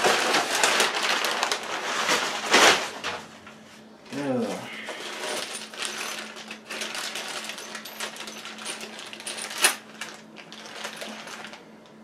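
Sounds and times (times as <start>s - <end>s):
plastic bags crinkling: 0.0s - 3.3s, 4.9s - 11.7s.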